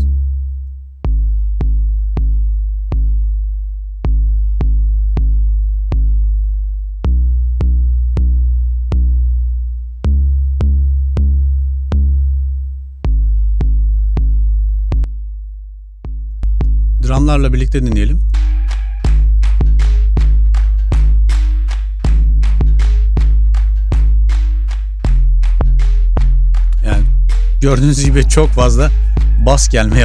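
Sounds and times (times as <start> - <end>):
deep sub-bass line: 0.0 - 30.0.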